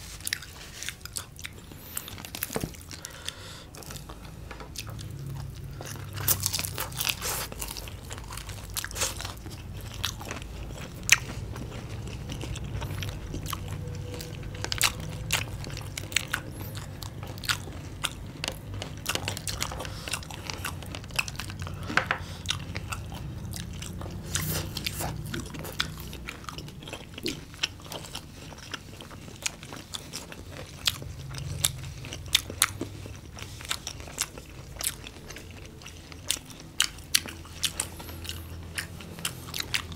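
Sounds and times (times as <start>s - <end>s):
people chewing crunchy fried food: 0.0s - 39.9s.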